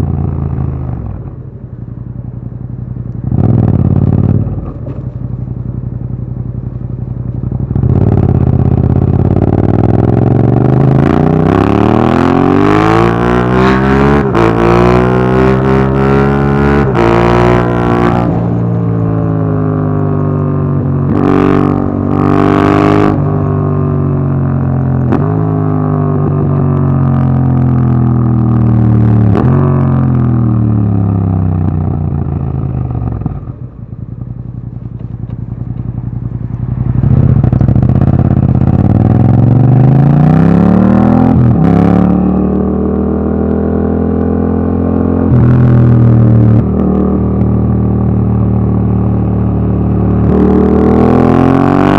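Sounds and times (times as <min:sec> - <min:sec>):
motorcycle engine revving: 0:03.1 - 0:51.9.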